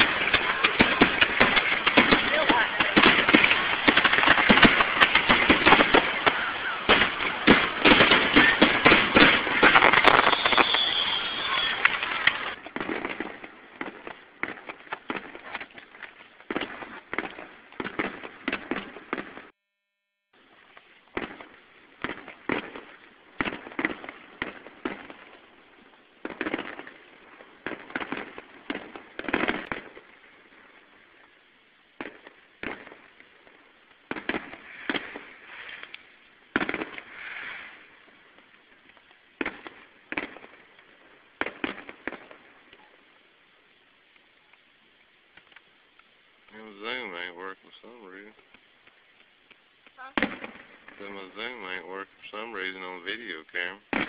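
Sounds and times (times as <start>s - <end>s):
fireworks exploding with echo: 0.0s - 19.6s, 20.4s - 54.0s.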